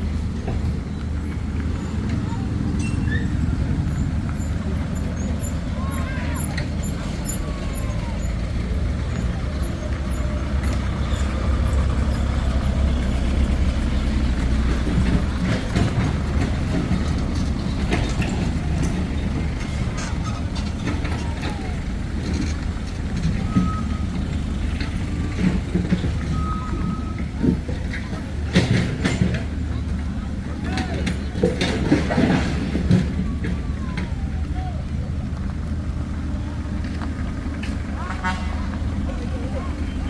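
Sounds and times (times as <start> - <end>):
diesel machinery rumbling: 0.0 - 40.0.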